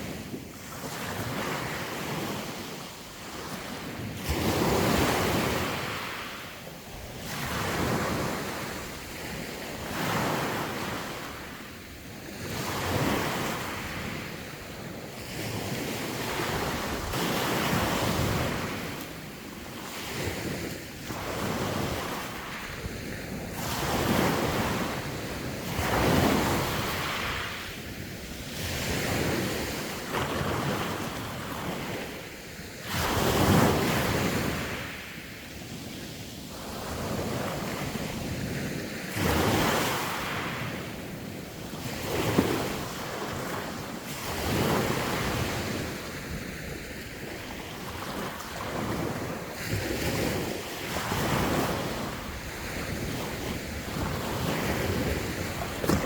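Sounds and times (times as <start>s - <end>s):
sea waves breaking on shore: 0.0s - 56.0s
wind on microphone: 0.0s - 56.0s.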